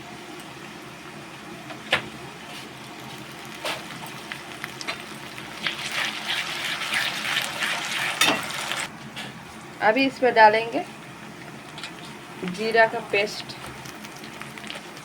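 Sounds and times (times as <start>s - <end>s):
crackling sizzle in oil: 0.0s - 8.9s, 10.8s - 15.0s.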